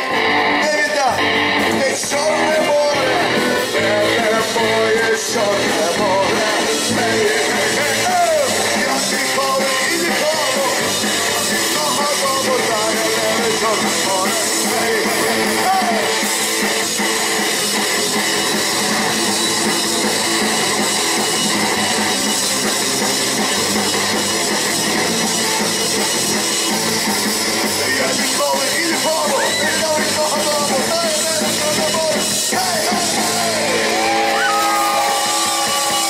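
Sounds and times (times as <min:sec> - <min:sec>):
bass guitar: 0:00.0 - 0:36.0
drum kit: 0:00.0 - 0:36.0
electric guitar: 0:00.0 - 0:36.0.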